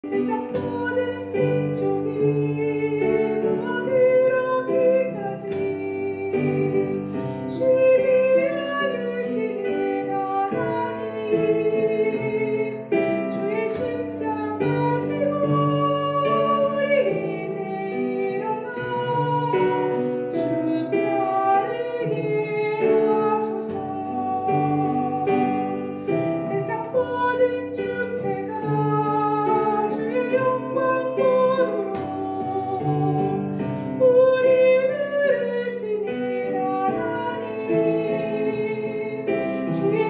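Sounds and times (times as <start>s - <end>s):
instrumental backing: 0.0s - 40.0s
soprano singing a hymn: 0.0s - 40.0s.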